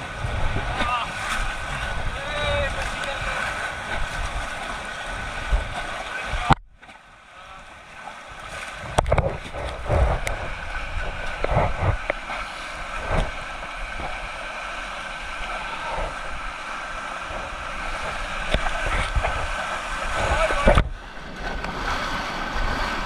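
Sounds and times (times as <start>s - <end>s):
wind buffeting microphone: 0.0s - 6.6s, 8.5s - 14.2s, 15.4s - 23.0s
low thumps and splashes: 0.0s - 7.2s, 7.9s - 23.0s
river water rushing: 0.0s - 23.0s.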